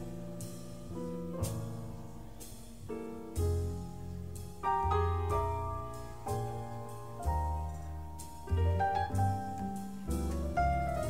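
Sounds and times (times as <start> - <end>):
double bass line: 0.0 - 11.0
light cymbal strokes: 0.0 - 11.0
piano chords: 0.0 - 11.0.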